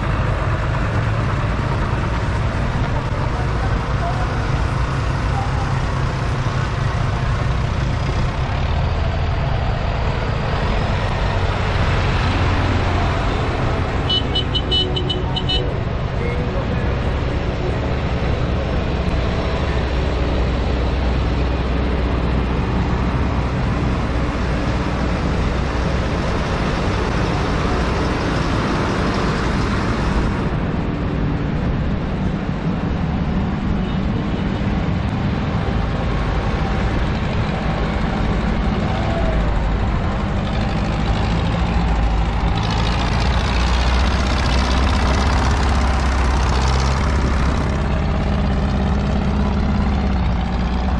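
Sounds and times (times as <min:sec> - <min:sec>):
diesel tractor engines: 0:00.0 - 0:50.9.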